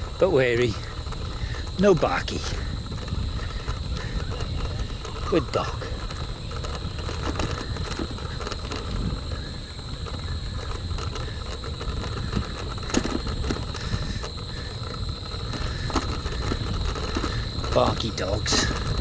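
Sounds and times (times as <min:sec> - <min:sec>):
insects droning: 0:00.0 - 0:19.0
wind rumbling on microphone: 0:00.0 - 0:19.0.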